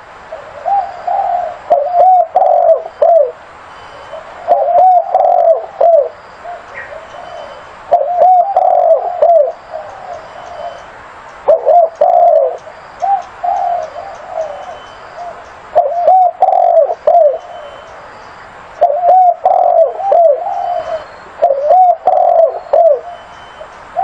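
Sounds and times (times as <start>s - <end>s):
dove cooing: 0.3s - 3.4s, 4.0s - 10.9s, 11.5s - 18.0s, 18.8s - 24.0s.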